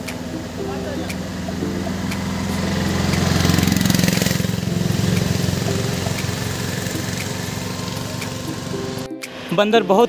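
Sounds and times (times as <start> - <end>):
motorcycle engine idling: 0.4 - 8.7.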